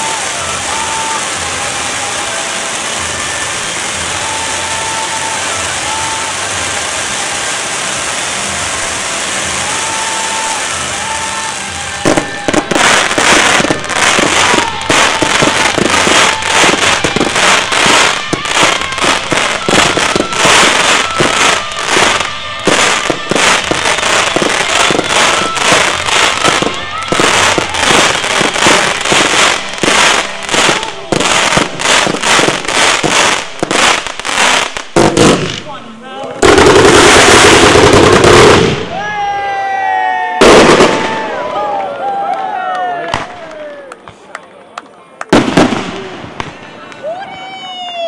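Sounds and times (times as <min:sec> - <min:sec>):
firework launch bangs and crackles: 0:00.0 - 0:39.1, 0:40.4 - 0:41.5, 0:43.1 - 0:44.2, 0:45.3 - 0:46.9
firework fountains hissing: 0:00.0 - 0:42.2.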